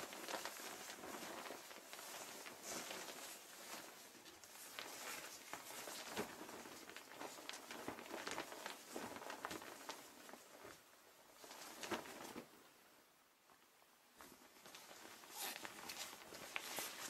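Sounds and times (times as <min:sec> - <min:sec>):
plastic clothing rustling: 0:00.0 - 0:17.0.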